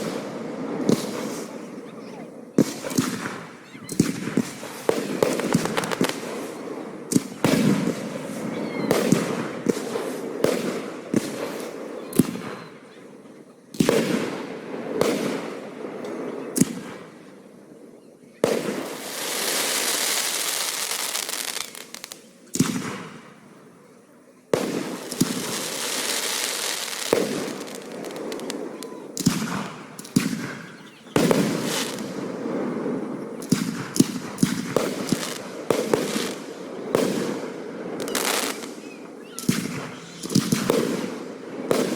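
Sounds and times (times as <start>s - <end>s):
fireworks bursts and booms: 0.0s - 41.9s
fireworks dense crackling: 0.0s - 41.9s.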